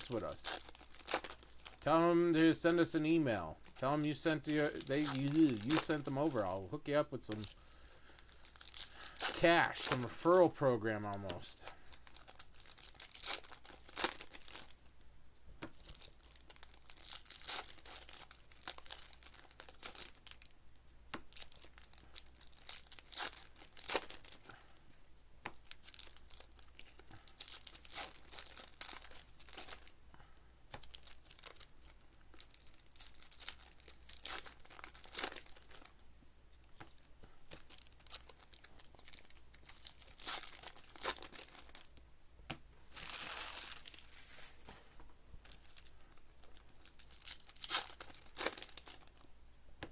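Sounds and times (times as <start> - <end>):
card pack wrappers crinkling and tearing: 0.0 - 15.0, 15.7 - 24.8, 25.5 - 30.0, 30.7 - 36.0, 36.6 - 42.1, 42.9 - 49.3.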